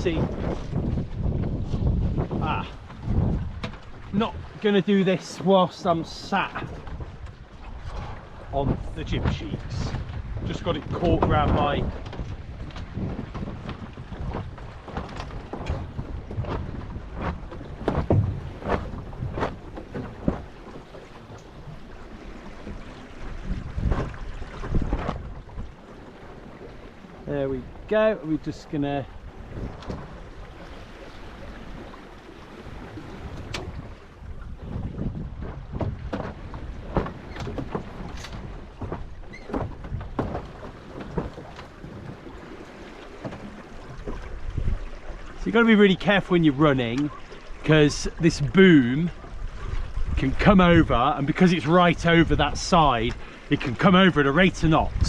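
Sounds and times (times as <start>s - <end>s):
low wind rumble: 0.0s - 55.0s
water splashing against hull: 0.0s - 55.0s.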